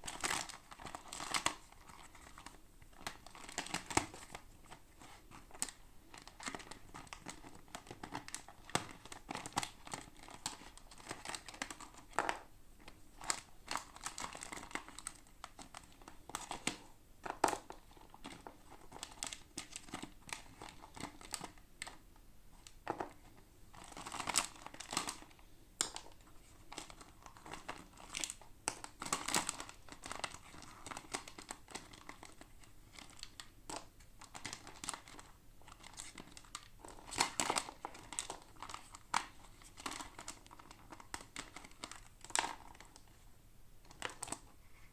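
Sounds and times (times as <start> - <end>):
packaging crinkling and tearing: 0.0 - 12.5, 13.2 - 22.0, 23.7 - 43.2, 43.8 - 44.5.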